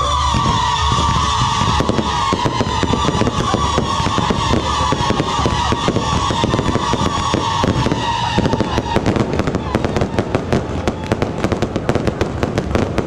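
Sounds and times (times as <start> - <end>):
firework whistle dropping in pitch: 0.0 - 11.8
fireworks crackling and popping: 0.0 - 13.0.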